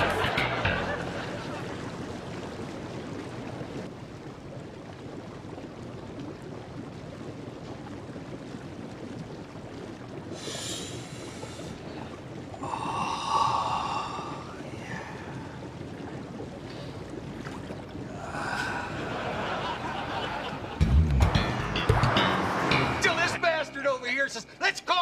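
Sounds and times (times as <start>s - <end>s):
hot tub bubbling: 0.0s - 25.0s.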